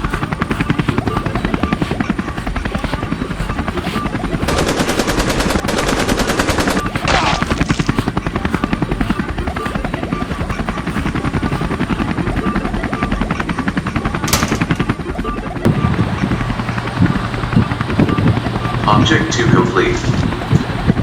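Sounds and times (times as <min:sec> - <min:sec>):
helicopter rotor chopping: 0:00.0 - 0:21.0.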